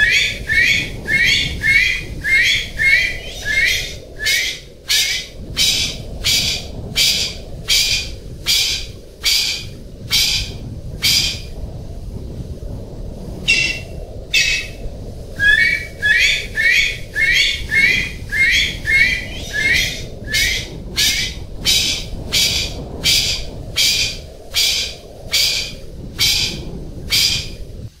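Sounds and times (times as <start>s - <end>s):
pheasant calling: 0.0s - 11.5s, 13.5s - 14.8s, 15.4s - 27.6s
low background rumble: 0.0s - 28.0s.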